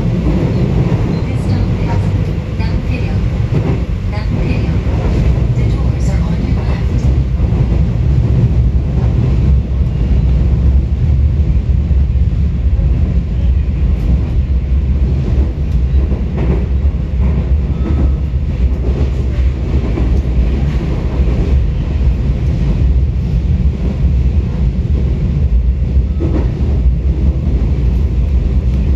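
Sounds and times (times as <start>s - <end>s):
train wheels rumbling on rail: 0.0s - 28.9s.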